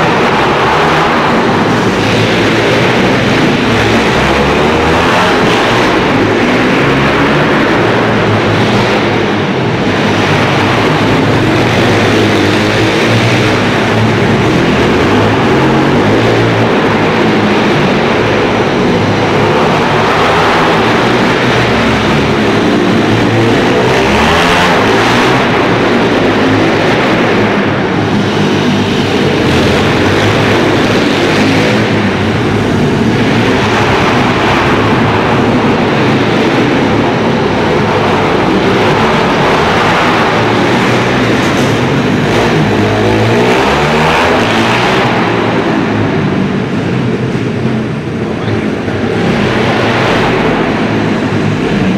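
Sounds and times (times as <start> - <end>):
motorbike engine revving: 0.0 - 51.9.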